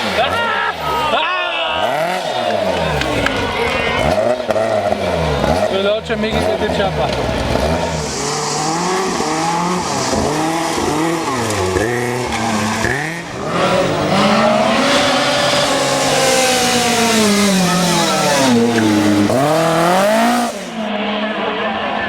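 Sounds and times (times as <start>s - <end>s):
rally car engine revving hard: 0.0s - 21.2s.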